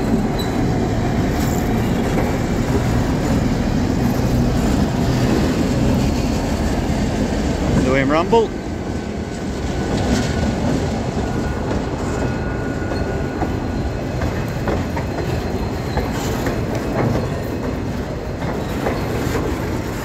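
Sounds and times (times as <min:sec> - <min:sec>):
freight train heavy rumble: 0:00.0 - 0:20.0.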